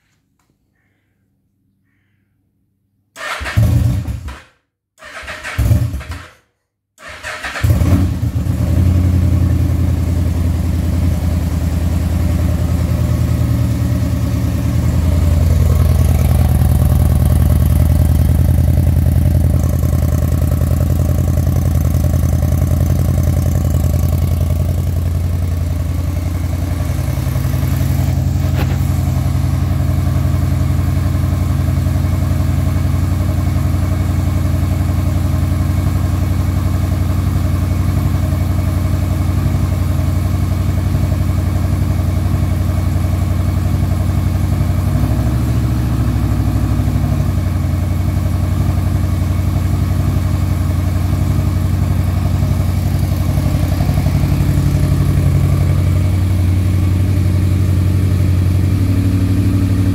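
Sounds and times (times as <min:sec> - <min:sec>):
motorcycle engine starting and idling: 0:03.2 - 0:59.9.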